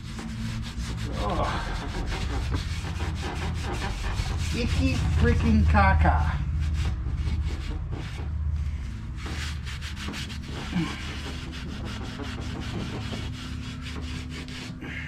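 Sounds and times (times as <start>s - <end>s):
low hum: 0.0s - 14.7s
scrubbing and scraping: 0.0s - 15.0s.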